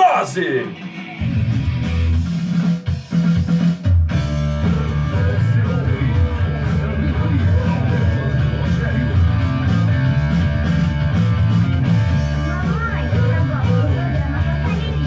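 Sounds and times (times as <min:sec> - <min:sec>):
distorted electric guitar: 0:00.0 - 0:15.0
drums: 0:00.0 - 0:15.0.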